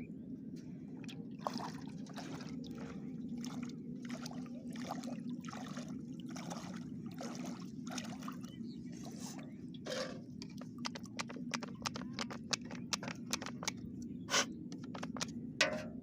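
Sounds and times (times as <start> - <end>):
steady low hum: 0.0 - 16.0
water splashing and trickling: 0.9 - 16.0.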